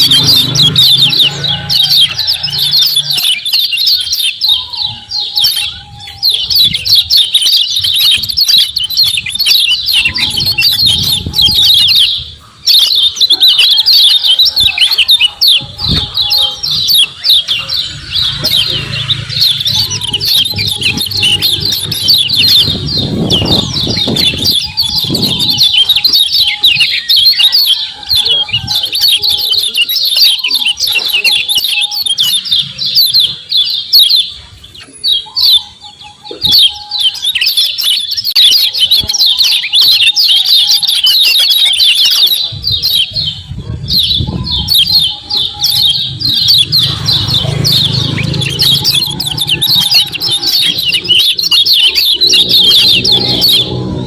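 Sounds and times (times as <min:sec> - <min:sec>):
bird chattering calls: 0:00.0 - 0:54.0.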